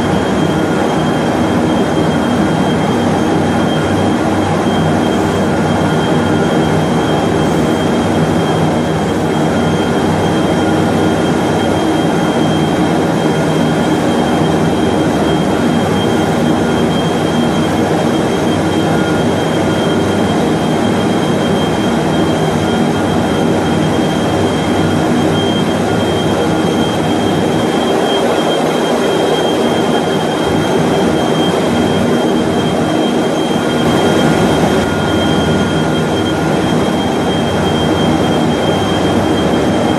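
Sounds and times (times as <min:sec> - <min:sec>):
high whine: 0:00.0 - 0:39.9.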